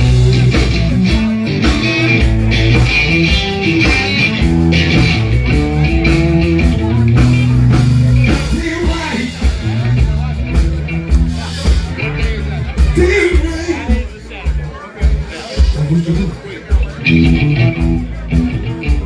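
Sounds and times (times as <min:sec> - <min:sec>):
electric guitar: 0:00.0 - 0:13.9, 0:15.7 - 0:19.0
bass line: 0:00.0 - 0:19.0
live blues-rock band: 0:00.0 - 0:19.0.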